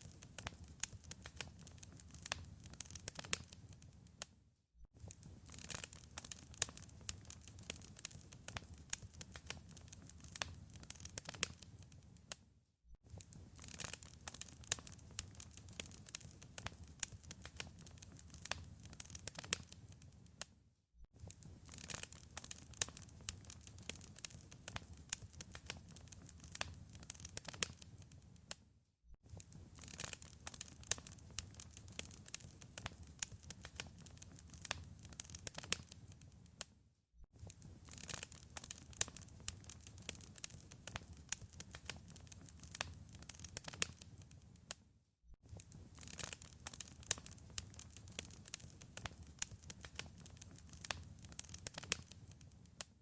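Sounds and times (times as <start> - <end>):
wood fire crackling: 0.0 - 4.3, 5.0 - 12.4, 13.1 - 20.5, 21.2 - 28.6, 29.3 - 36.7, 37.4 - 44.8, 45.5 - 52.9.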